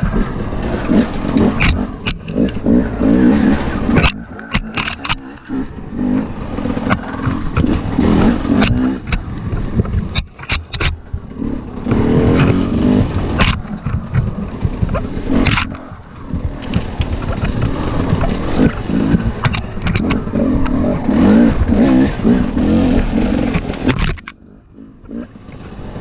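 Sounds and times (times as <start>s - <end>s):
knocks and scrapes on trail: 0.0s - 26.0s
motorcycle engine revving: 0.0s - 26.0s.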